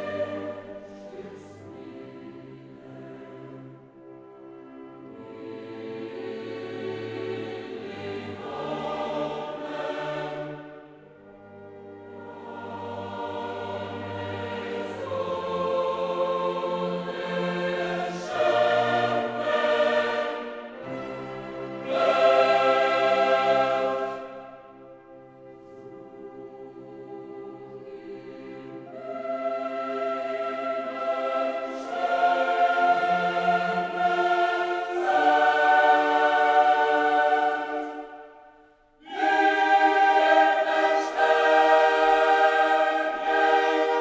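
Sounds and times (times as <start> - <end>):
choir singing held chords: 0.0 - 44.0.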